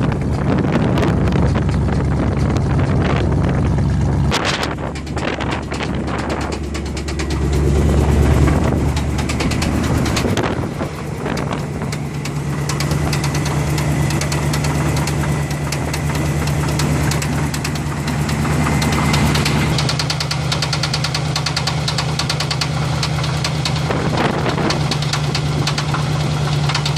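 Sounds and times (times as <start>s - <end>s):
car engine idling: 0.0s - 26.9s
rapid engine knock: 0.0s - 26.9s.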